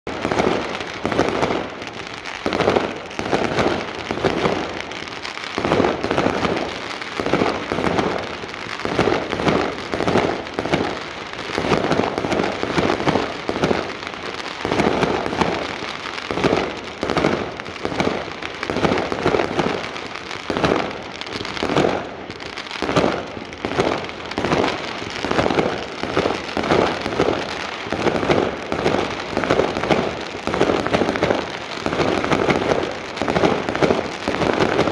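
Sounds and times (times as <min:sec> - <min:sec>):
fireworks bangs: 0:00.1 - 0:34.9.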